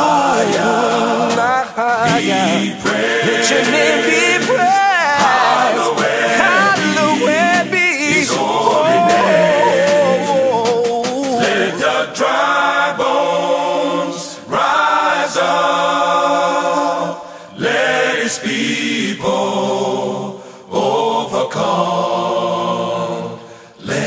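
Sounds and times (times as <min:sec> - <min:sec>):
group chanting a gospel song: 0:00.0 - 0:24.0.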